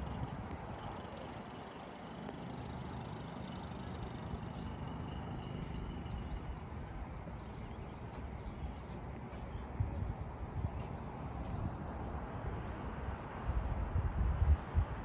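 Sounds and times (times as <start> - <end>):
outdoor low rumble: 0.0 - 15.0.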